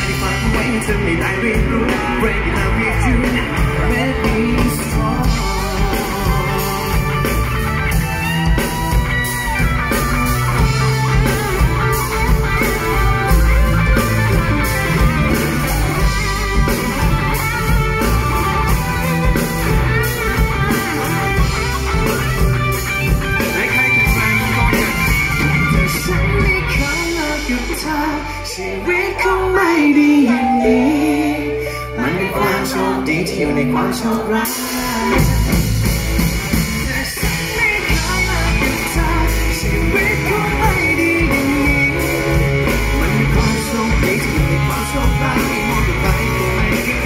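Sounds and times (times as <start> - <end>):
bass guitar: 0.0 - 47.0
drums: 0.0 - 47.0
electric guitar: 0.0 - 47.0.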